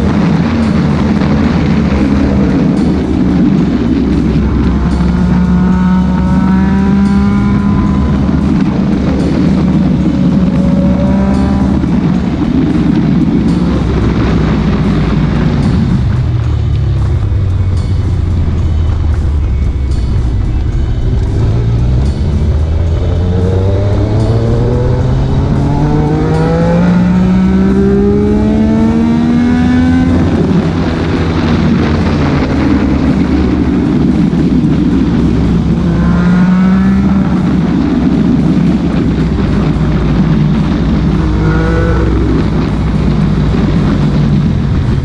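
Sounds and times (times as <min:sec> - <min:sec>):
motorcycle engine accelerating: 0:00.0 - 0:45.0
wind noise: 0:00.0 - 0:45.0.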